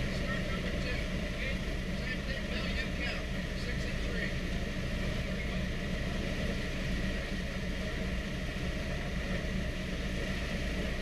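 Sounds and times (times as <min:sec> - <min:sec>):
aircraft engines idling low rumble: 0:00.0 - 0:11.0.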